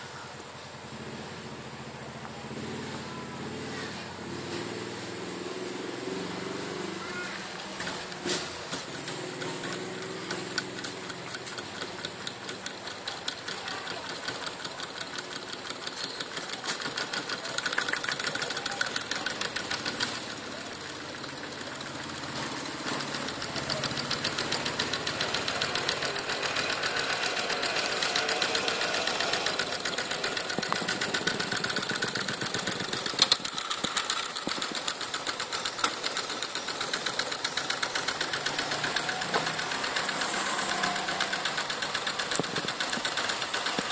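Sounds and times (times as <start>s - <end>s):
stirling engine clattering: 3.4s - 43.9s.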